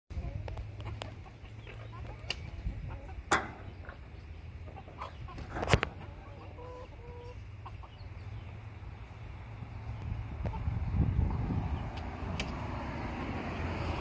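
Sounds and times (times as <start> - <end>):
hens clucking: 0.1 - 11.8.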